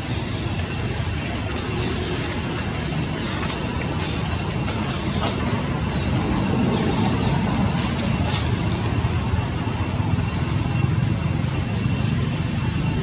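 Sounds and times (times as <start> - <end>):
outdoor rumble and hiss: 0.0 - 13.0.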